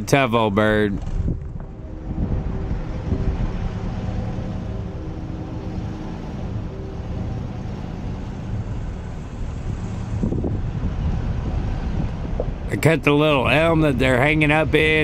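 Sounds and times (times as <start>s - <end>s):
engine running at low speed: 0.0s - 15.0s.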